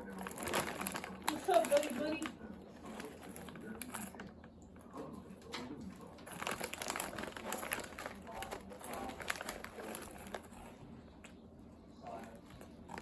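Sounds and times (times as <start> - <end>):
rustling and crinkling handling: 0.0 - 13.0.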